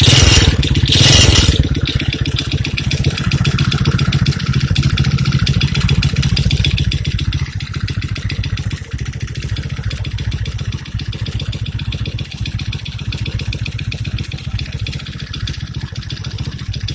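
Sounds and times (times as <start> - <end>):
atv engine running: 0.0 - 16.9.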